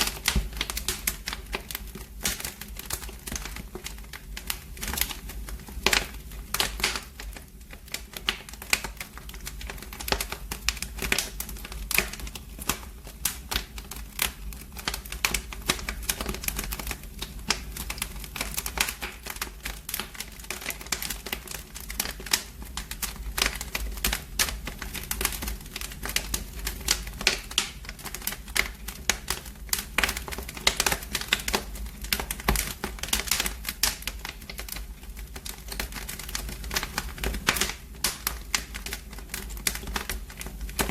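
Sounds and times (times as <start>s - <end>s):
fire crackling and popping: 0.0s - 40.9s
low rumble of fire: 0.0s - 40.9s.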